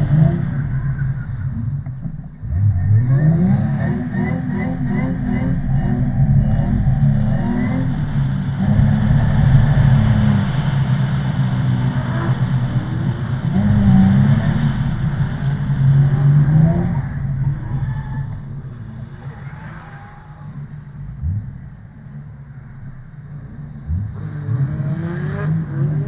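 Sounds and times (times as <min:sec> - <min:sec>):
car engine revving hard: 0:00.0 - 0:22.1, 0:23.4 - 0:26.0.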